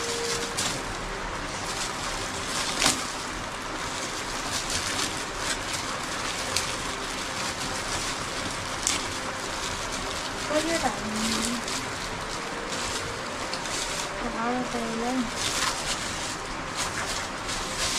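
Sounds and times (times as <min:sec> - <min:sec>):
steady rain hiss: 0:00.0 - 0:17.9.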